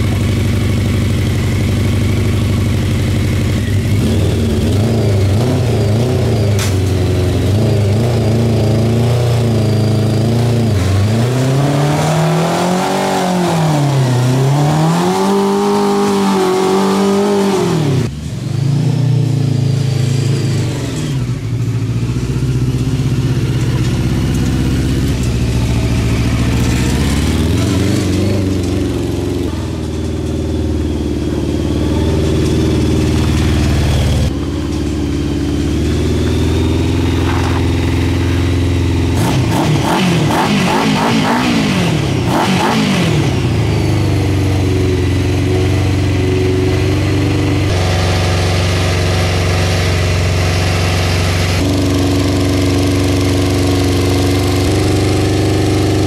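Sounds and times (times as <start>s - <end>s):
engine idling: 0.0s - 11.1s, 17.9s - 56.0s
motorcycle engine revving: 0.0s - 56.0s.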